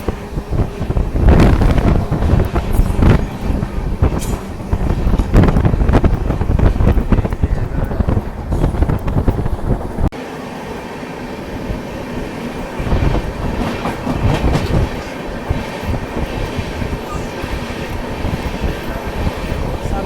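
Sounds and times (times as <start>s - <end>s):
wheels clacking over rails: 0.0s - 10.2s, 11.5s - 20.0s
train rumbling: 0.0s - 20.0s.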